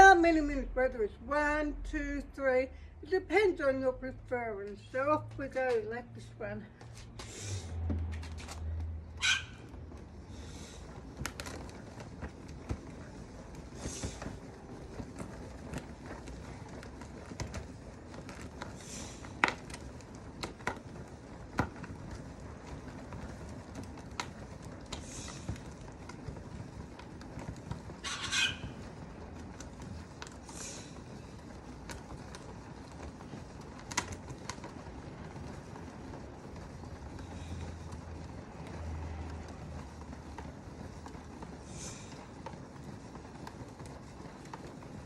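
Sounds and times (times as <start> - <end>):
hand-turned spin dryer whirring: 0.0 - 45.0.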